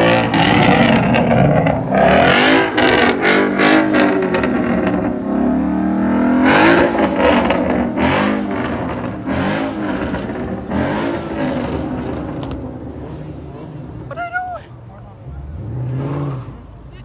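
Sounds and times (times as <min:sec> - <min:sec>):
car engine revving: 0:00.0 - 0:14.2, 0:15.1 - 0:17.0.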